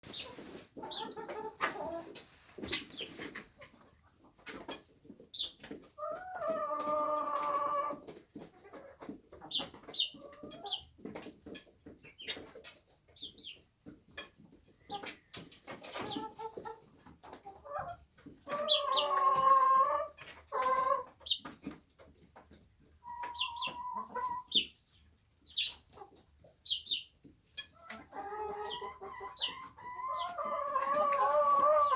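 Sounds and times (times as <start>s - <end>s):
young chickens peeping: 0.0s - 31.9s.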